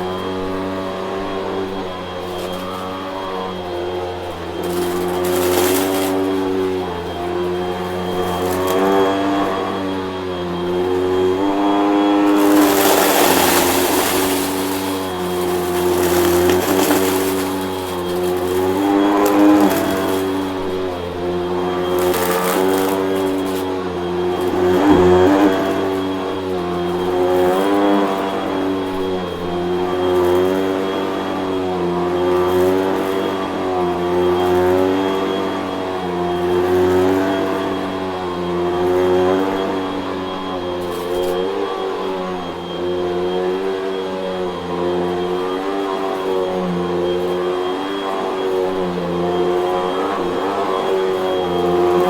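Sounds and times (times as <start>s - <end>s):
vacuum cleaner motor whining: 0.0s - 52.0s.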